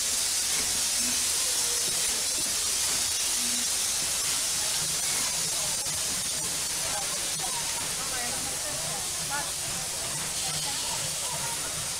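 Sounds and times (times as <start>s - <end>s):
steam locomotive hissing steam: 0.0s - 11.9s.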